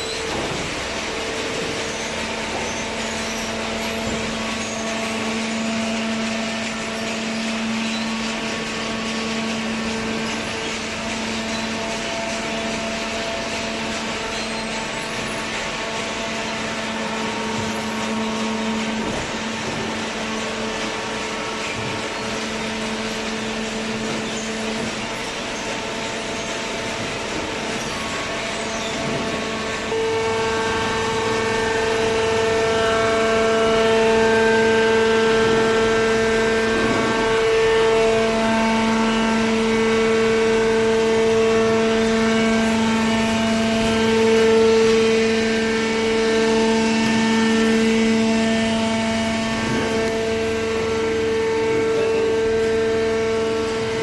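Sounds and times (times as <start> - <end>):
hydraulic baler humming with whine: 0.0 - 54.0.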